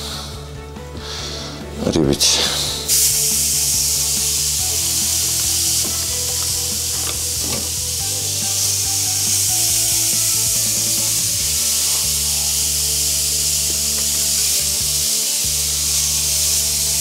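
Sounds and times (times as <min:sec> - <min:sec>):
soft background music: 0:00.0 - 0:17.0
fish sizzling on a grill: 0:02.9 - 0:17.0.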